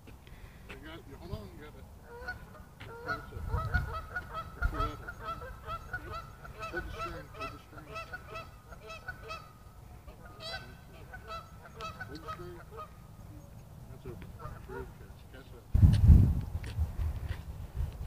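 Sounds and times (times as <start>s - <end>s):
geese honking: 0.7s - 15.6s.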